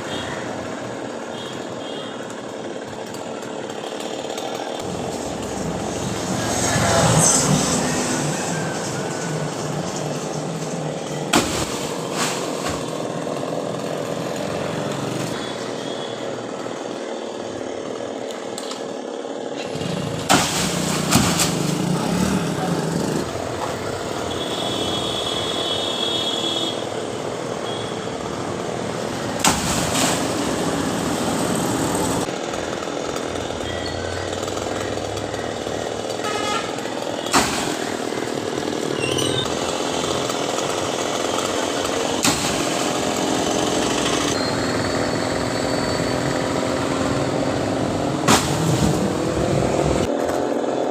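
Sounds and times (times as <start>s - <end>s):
chainsaw cutting: 0.0s - 50.9s.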